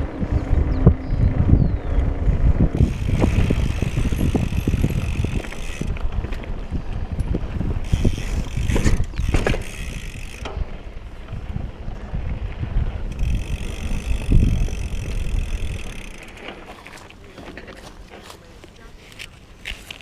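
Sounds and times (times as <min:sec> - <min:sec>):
wind on microphone: 0:00.0 - 0:17.0
mountain bike rattling: 0:00.0 - 0:18.5, 0:19.1 - 0:20.0.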